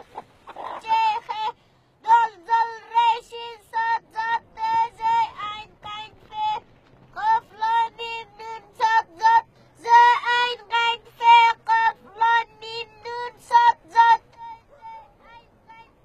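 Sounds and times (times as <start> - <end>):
child chanting sing-song: 0.6 - 16.0.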